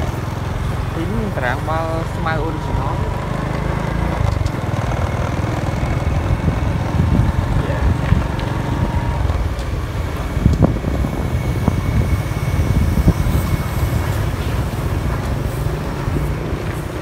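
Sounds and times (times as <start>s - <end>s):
motorbike engine and road rumble: 0.0s - 17.0s.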